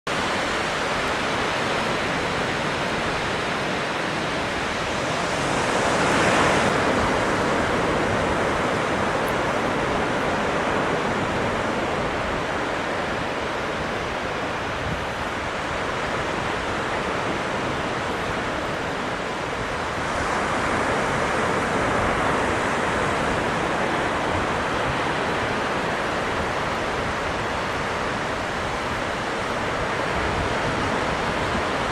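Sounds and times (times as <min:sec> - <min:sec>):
strong wind: 0:00.1 - 0:31.9
surf washing onto beach: 0:00.1 - 0:31.9.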